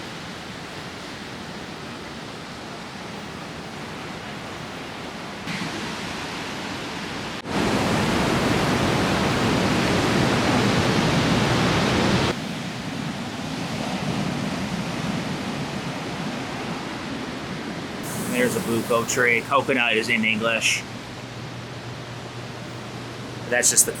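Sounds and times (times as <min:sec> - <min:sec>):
ocean surf on a beach: 0:00.0 - 0:24.0.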